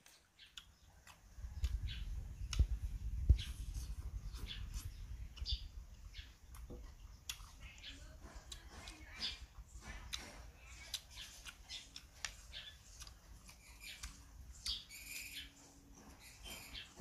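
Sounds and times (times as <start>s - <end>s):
person chewing and smacking: 0.0s - 17.0s.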